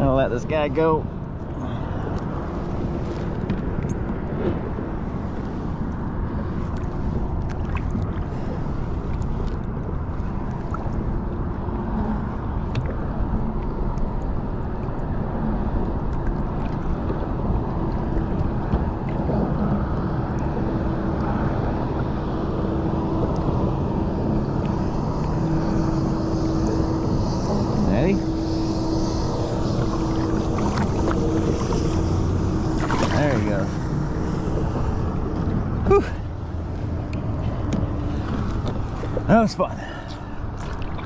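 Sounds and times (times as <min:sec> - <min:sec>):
choppy water: 0:00.0 - 0:41.0
engine hum: 0:00.0 - 0:41.0
wind: 0:00.0 - 0:41.0.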